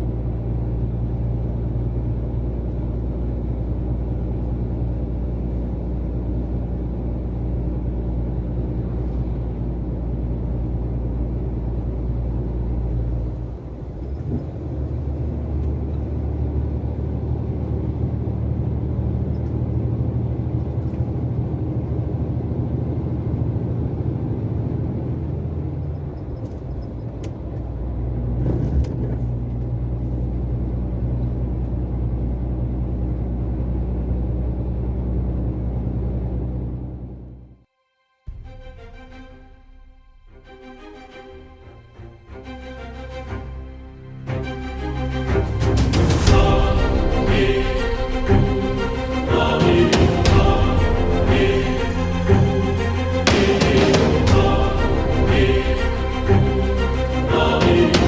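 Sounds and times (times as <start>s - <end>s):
heavy vehicle engine humming: 0.0s - 37.6s, 38.3s - 58.0s.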